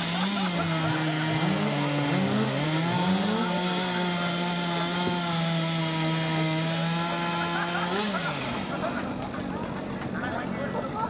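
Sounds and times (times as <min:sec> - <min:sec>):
chainsaw engine at high revs: 0:00.0 - 0:09.5.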